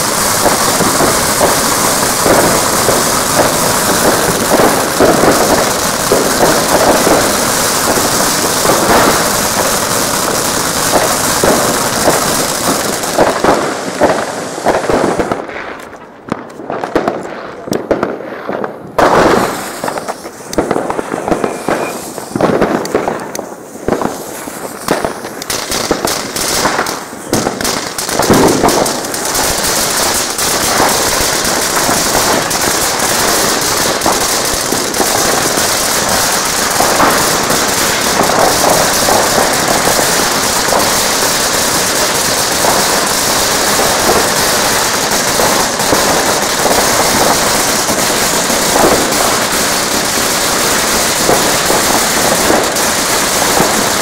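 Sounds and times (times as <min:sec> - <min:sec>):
firecracker bangs: 0:00.0 - 0:54.0
fireworks crackling: 0:00.0 - 0:54.0.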